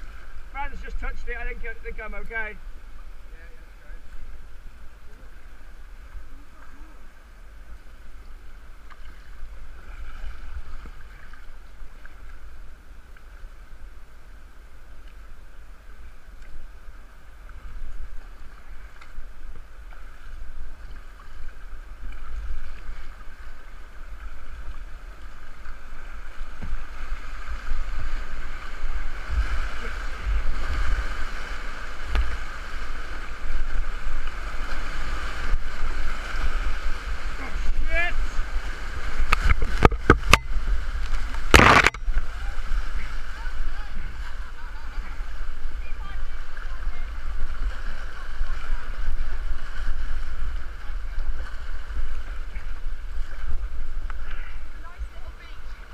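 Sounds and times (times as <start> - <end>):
water rushing and splashing: 0.0 - 55.9.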